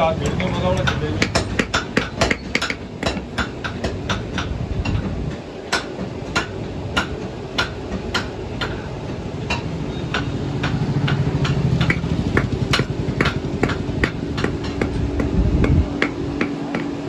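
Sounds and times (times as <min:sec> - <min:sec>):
low steady rumble: 0:00.0 - 0:17.0
hammer striking iron on anvil: 0:00.2 - 0:05.1, 0:05.7 - 0:17.0.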